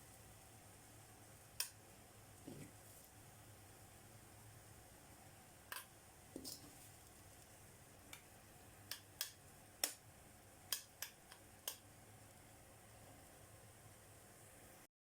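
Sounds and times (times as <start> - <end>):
low steady hiss: 0.0 - 14.9.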